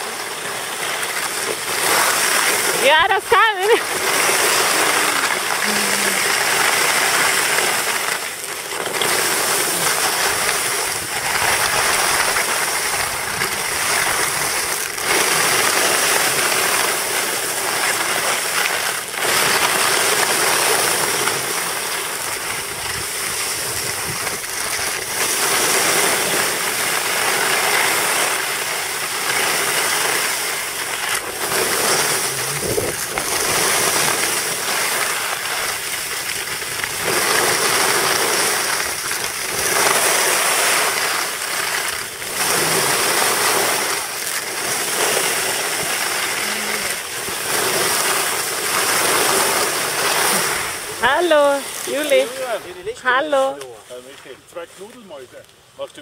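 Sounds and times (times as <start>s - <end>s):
skis scraping over packed snow: 0.0s - 56.0s.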